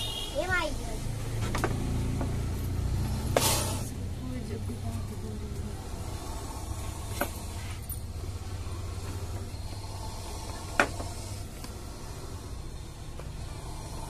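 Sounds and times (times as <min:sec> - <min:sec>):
low steady engine-like hum: 0:00.0 - 0:14.0.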